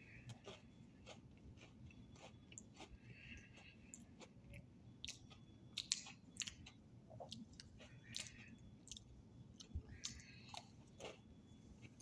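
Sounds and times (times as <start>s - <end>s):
cookie chewing crunches: 0.0s - 12.0s.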